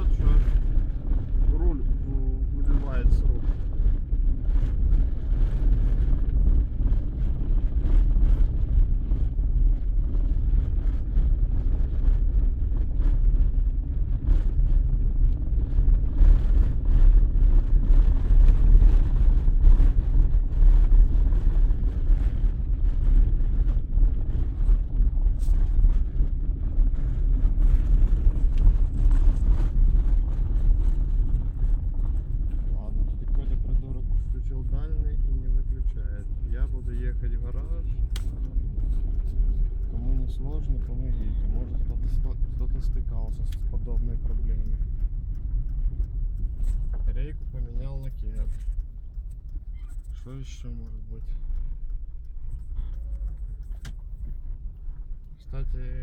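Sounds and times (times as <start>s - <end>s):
road and engine rumble: 0.0s - 56.0s.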